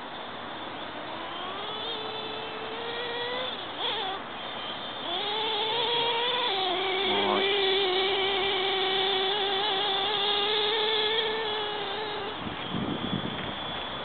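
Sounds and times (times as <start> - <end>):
electric motor and propeller whining: 0.0 - 14.0.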